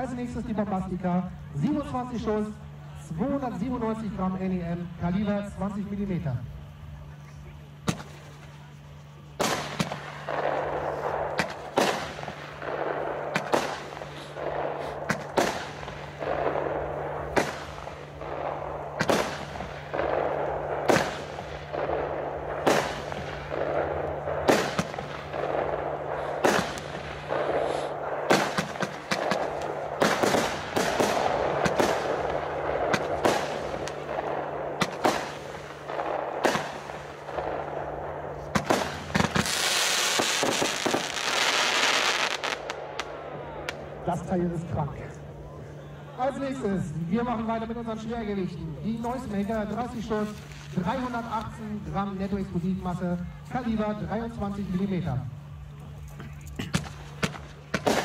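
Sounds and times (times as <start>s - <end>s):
firework bangs: 0.0s - 58.0s
firework crackling: 0.0s - 58.0s.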